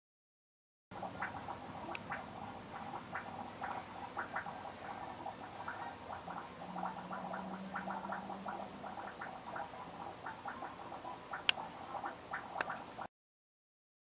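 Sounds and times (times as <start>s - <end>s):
aquarium water bubbling: 0.9s - 13.1s
low steady hum: 0.9s - 13.1s.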